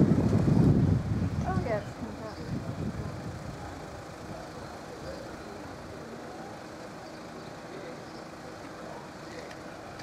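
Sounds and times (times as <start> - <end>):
train running slowly: 0.0 - 10.0.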